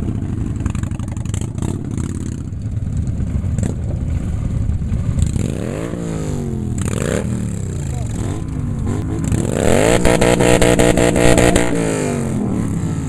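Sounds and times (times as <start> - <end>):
motorcycle engine revving: 0.0 - 13.0
motorcycle engines rumbling: 0.0 - 13.0.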